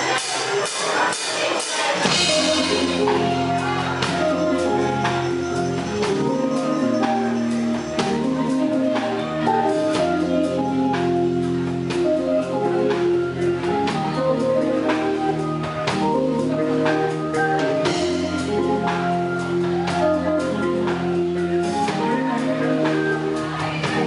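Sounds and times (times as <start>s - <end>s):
drum strikes: 0.0s - 24.0s
funk-jazz band playing: 0.0s - 24.0s
deep bass line: 2.0s - 24.0s.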